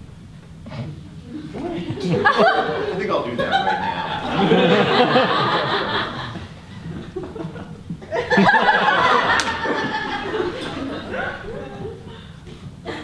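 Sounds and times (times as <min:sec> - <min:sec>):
audience laughing: 0:01.4 - 0:13.0.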